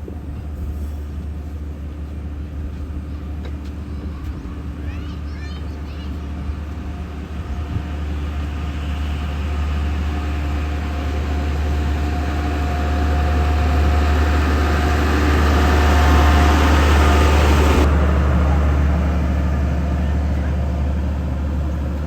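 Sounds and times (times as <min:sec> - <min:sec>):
vehicle engine running: 0:01.5 - 0:22.0.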